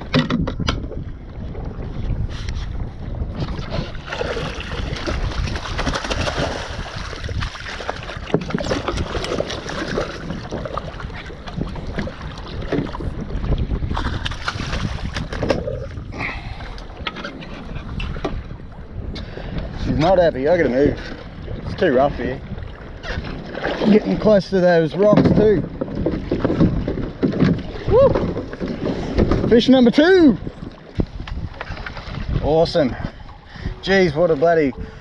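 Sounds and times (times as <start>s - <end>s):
water splashing against kayak hull: 0.0s - 35.0s
wind buffeting microphone: 0.0s - 35.0s.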